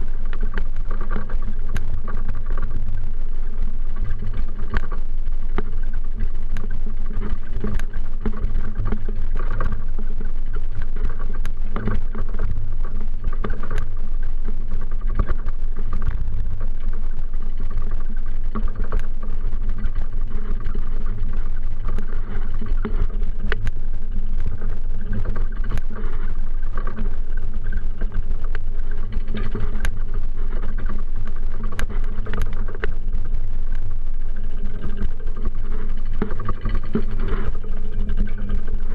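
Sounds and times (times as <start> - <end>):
low rumble of moving bicycle: 0.0 - 38.9.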